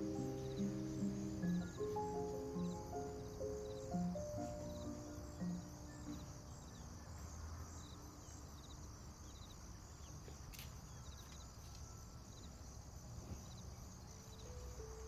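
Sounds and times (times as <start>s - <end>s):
bird chirps: 0.0s - 12.6s
insect chorus: 0.0s - 15.0s.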